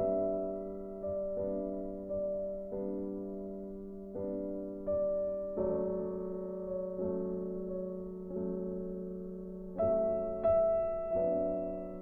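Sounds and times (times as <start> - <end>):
slow soft piano music: 0.0 - 12.0.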